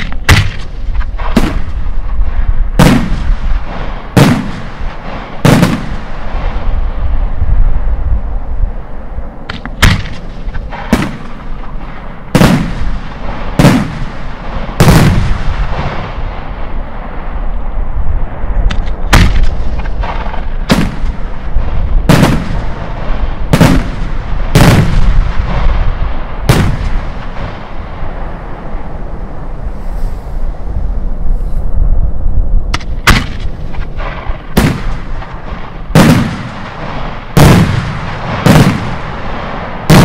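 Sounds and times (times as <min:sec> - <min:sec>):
firework bangs echoing: 0:00.0 - 0:07.1, 0:09.4 - 0:29.1, 0:32.7 - 0:40.0.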